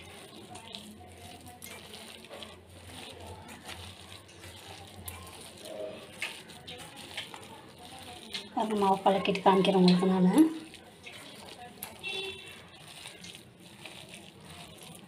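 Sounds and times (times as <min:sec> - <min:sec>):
hand squishing batter in bowl: 0:00.0 - 0:15.0.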